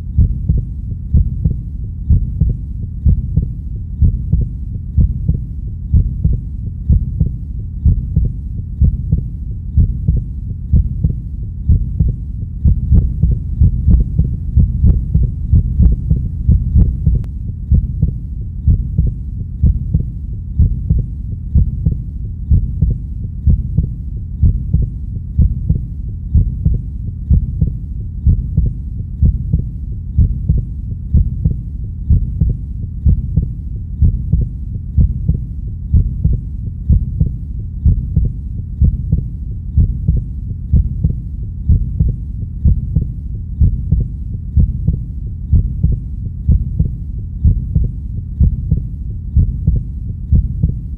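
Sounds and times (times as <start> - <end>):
heartbeat thuds: 0.0 - 50.9.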